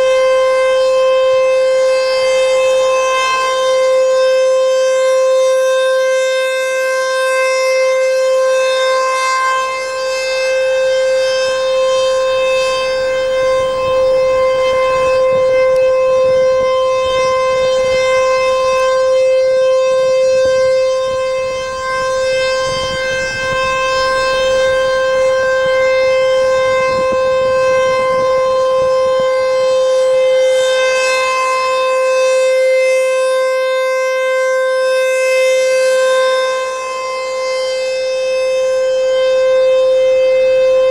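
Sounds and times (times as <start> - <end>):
rotating tornado siren steady tone: 0.0 - 40.9.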